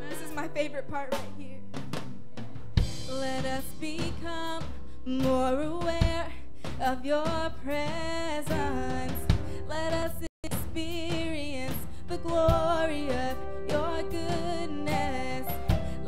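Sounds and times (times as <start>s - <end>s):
band with drum kit: 0.0s - 16.0s.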